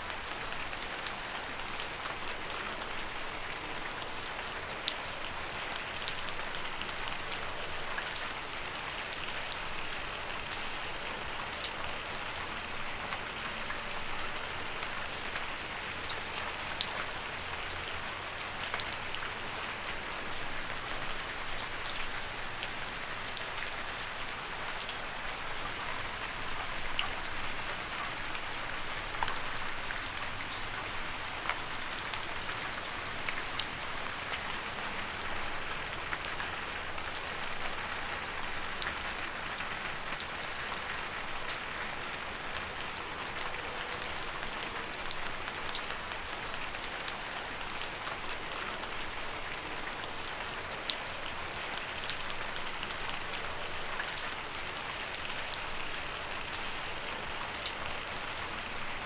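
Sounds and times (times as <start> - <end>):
raindrops ticking on a surface: 0.0 - 59.0.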